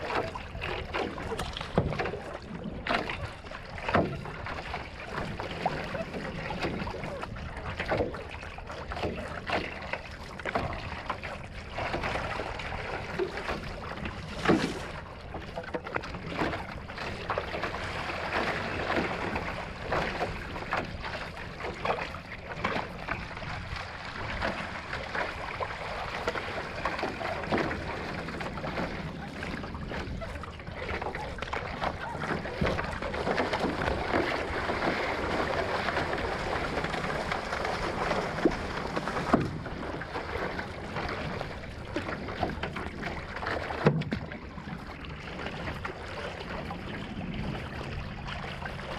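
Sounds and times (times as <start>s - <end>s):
paddle strokes: 0.0s - 48.9s
water splashing: 0.0s - 48.9s.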